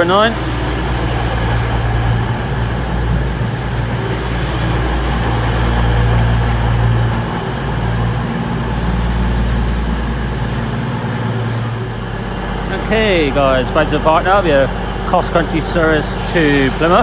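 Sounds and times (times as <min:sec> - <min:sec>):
train diesel engines droning: 0:00.0 - 0:17.0.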